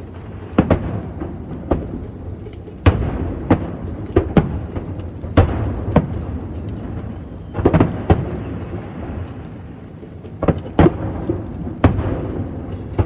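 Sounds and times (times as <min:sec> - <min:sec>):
fireworks booming: 0:00.0 - 0:13.0.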